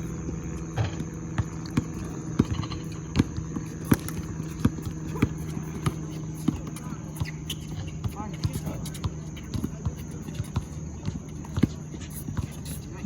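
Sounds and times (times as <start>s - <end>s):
steady low hum: 0.0s - 13.0s
basketball bouncing on hard court: 0.1s - 13.0s.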